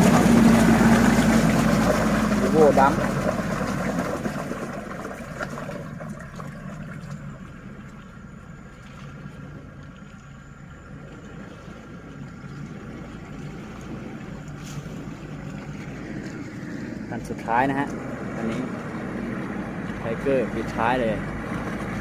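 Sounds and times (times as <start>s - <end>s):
truck engine humming: 0.0s - 22.0s.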